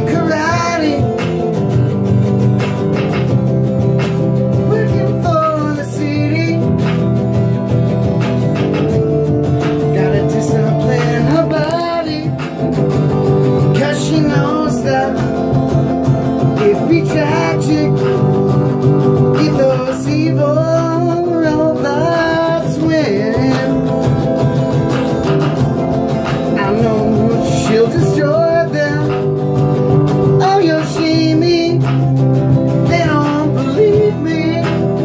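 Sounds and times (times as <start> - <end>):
electric guitar: 0.0 - 35.0.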